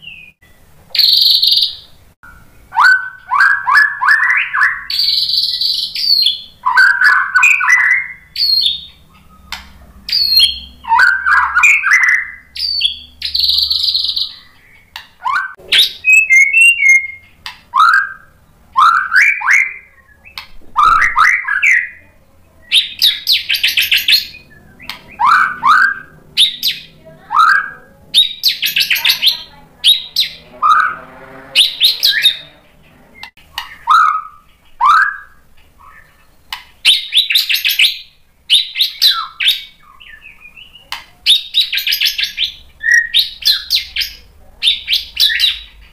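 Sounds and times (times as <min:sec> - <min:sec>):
songbird singing whistles and trills: 0:00.0 - 0:31.0, 0:31.6 - 0:32.5, 0:33.2 - 0:45.8.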